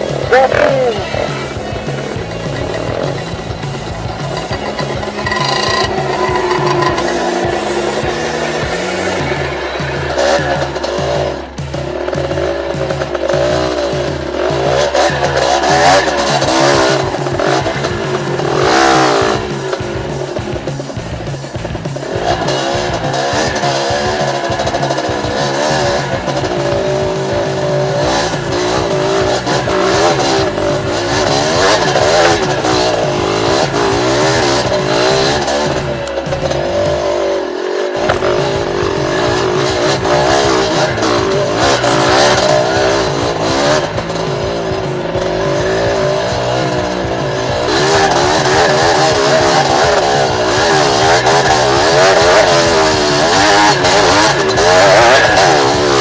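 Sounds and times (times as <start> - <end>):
background music with bass line: 0.0 - 56.0
dirt bike engine revving: 0.0 - 56.0.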